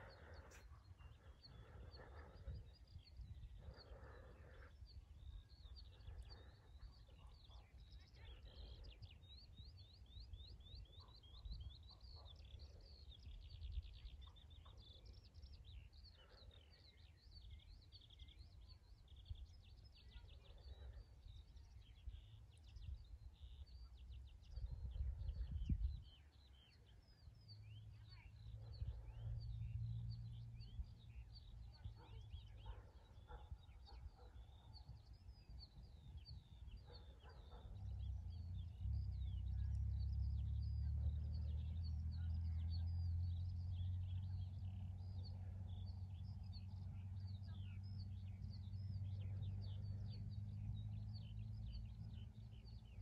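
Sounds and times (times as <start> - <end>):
faint low rumble: 0.0 - 53.0
small songbirds chirping and trilling: 0.0 - 53.0.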